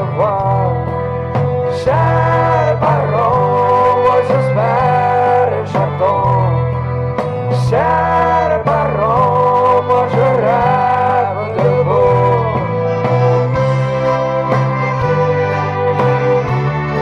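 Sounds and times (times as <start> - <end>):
band playing a waltz: 0.0 - 17.0
steady bass line: 0.0 - 17.0.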